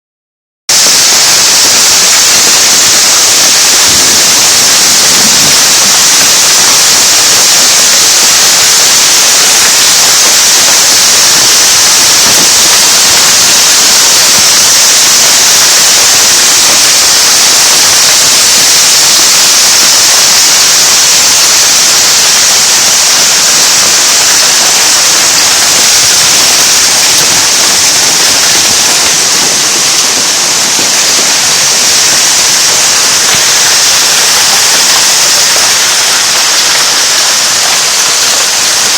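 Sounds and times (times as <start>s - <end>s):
hail pelting down: 0.7s - 38.9s.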